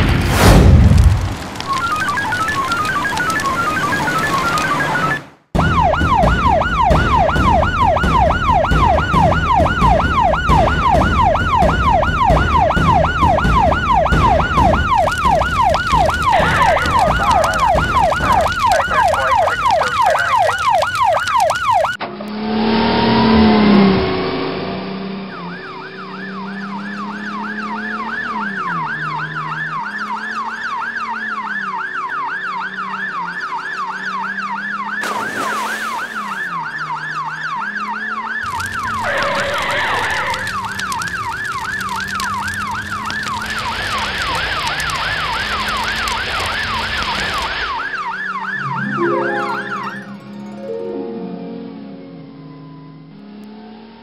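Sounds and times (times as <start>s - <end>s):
falling siren sweep: 1.6s - 54.0s
fast yelping siren: 1.7s - 22.0s, 25.3s - 50.2s.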